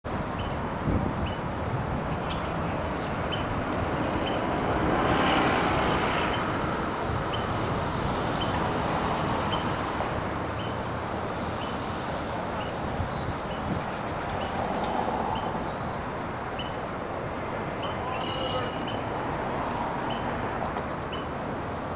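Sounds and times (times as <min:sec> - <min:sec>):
distant waterfall roar: 0:00.1 - 0:21.9.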